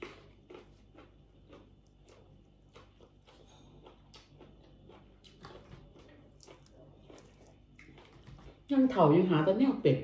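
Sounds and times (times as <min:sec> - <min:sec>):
crunching of fried fish bones: 0:00.0 - 0:08.7.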